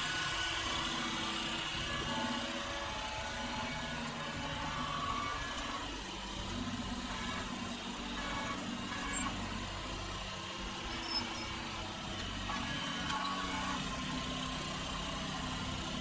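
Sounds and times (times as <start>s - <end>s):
sped up diesel engine running: 0.0s - 16.0s.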